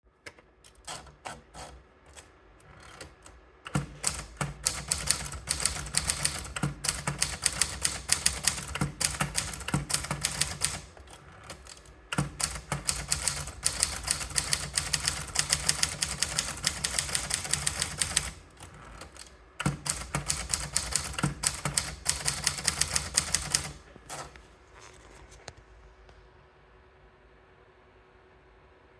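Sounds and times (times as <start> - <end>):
manual typewriter typing: 0.7 - 24.4.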